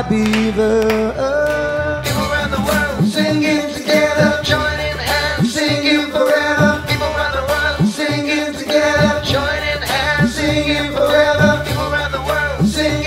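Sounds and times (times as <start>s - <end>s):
bass line: 0.0s - 13.0s
man singing: 0.0s - 13.0s
strummed acoustic guitar: 0.1s - 13.0s.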